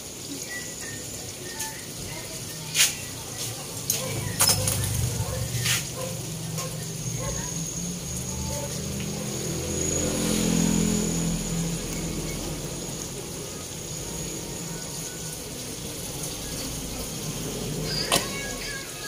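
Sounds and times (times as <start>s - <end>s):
deep frying sizzle in oil: 0.0s - 19.0s.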